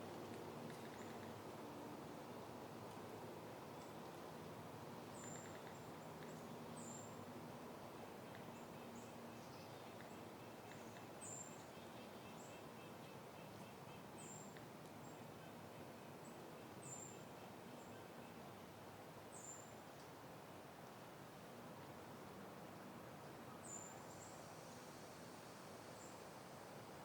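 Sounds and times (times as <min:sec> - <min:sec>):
soft wind hiss: 0:00.0 - 0:27.0.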